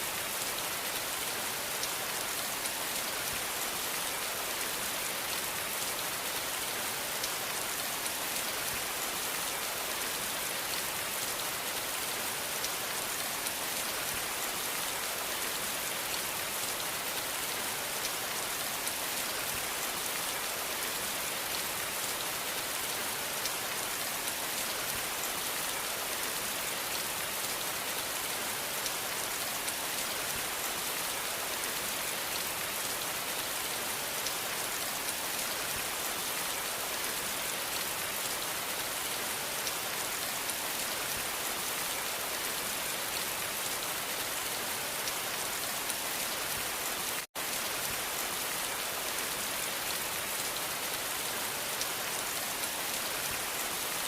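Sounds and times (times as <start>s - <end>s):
dense rain hiss: 0.0s - 54.0s.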